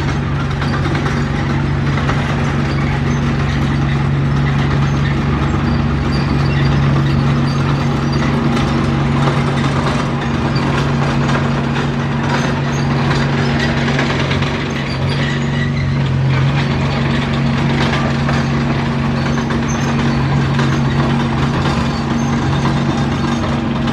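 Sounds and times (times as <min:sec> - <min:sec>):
bulldozer diesel engine running: 0:00.0 - 0:23.9.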